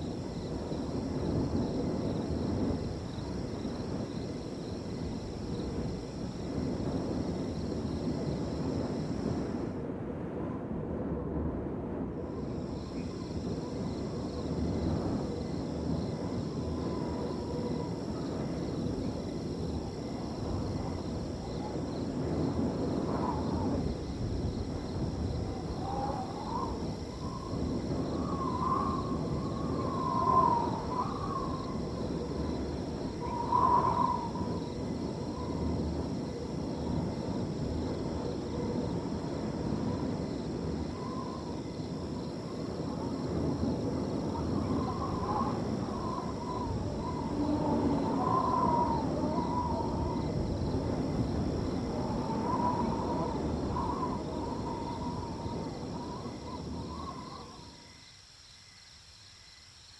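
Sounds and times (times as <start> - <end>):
crickets trilling: 0.0 - 9.9, 12.0 - 59.9
wind blowing through field: 0.0 - 59.9.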